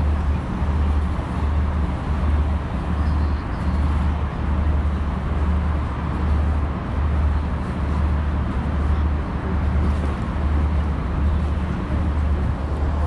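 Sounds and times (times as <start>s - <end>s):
busy city road traffic: 0.0s - 13.0s.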